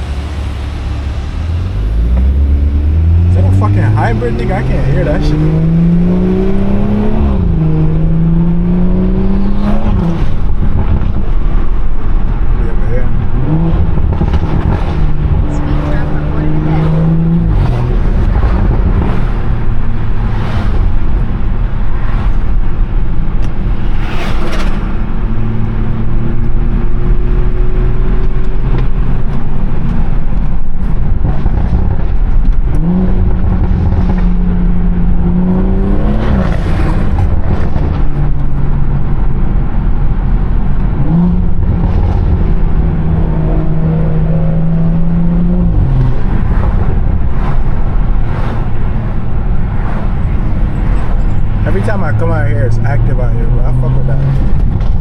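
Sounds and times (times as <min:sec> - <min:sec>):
car engine and exhaust droning: 0:00.0 - 0:55.0.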